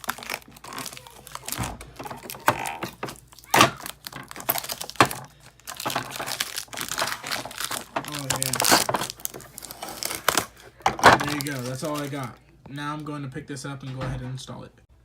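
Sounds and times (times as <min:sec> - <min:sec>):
plastic film peeling and crinkling: 0:00.0 - 0:12.4.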